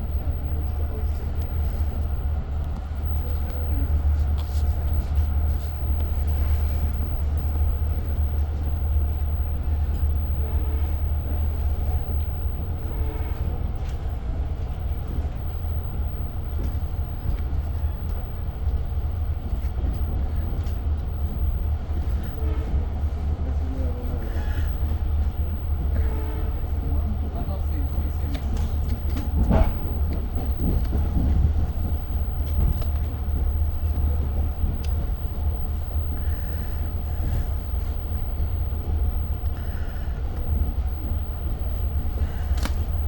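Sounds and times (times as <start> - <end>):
train interior rumble: 0.0 - 43.0.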